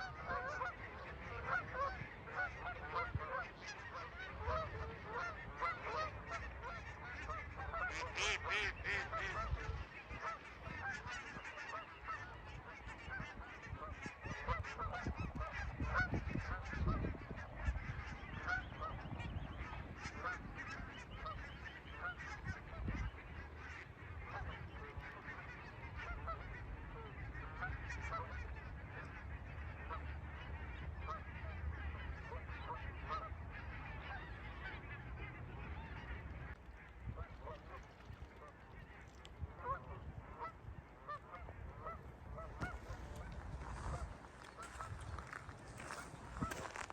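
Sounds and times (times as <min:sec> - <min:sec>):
geese calling: 0:00.0 - 0:46.9.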